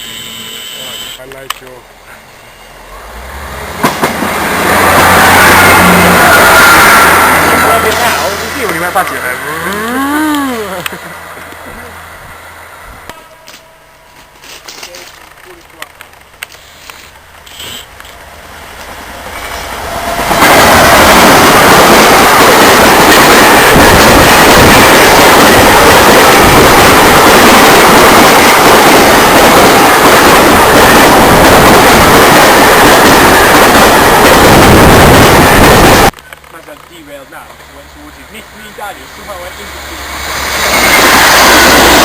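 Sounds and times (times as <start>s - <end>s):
train wheels rumbling on rail: 1.2s - 42.0s.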